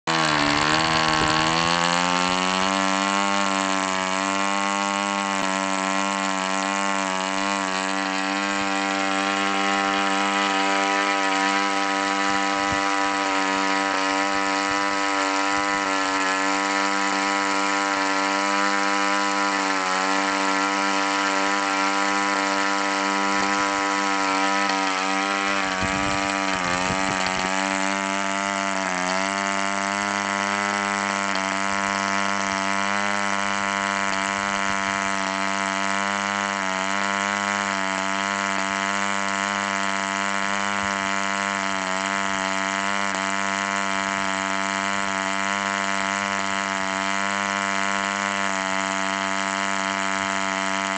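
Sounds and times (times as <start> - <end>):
model diesel engine running: 0.0 - 50.9.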